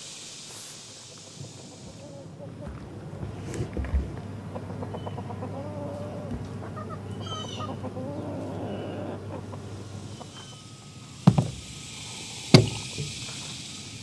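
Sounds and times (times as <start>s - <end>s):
hens clucking: 1.1s - 13.8s.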